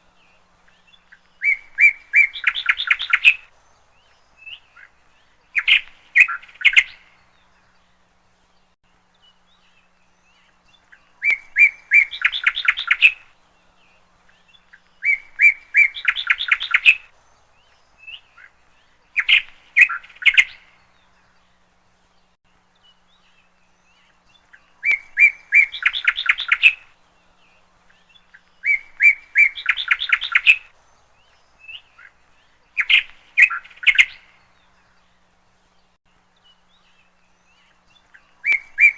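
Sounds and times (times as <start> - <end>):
bird chirping and trilling: 0.2 - 8.1, 9.1 - 21.6, 22.8 - 38.9.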